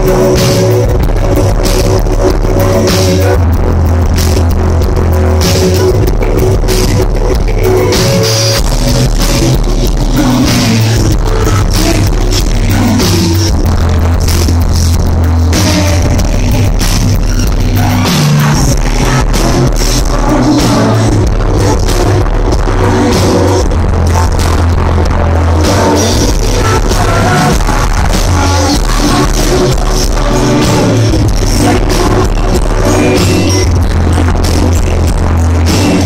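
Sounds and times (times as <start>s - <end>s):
booming deep bass: 0.0s - 36.0s
live band music: 0.0s - 36.0s
sung vocal: 0.0s - 36.0s.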